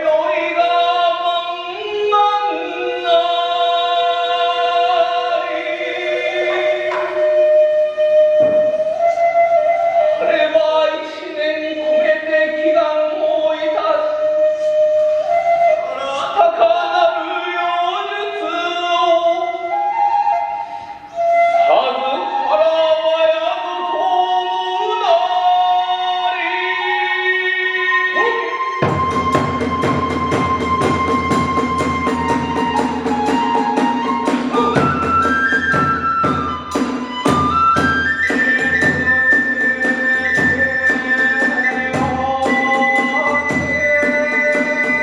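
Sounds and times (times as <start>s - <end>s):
bamboo flute long notes: 0.0s - 45.0s.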